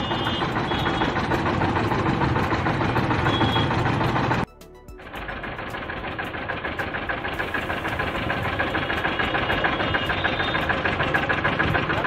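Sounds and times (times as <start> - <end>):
small engine idling with knocking: 0.0 - 12.0.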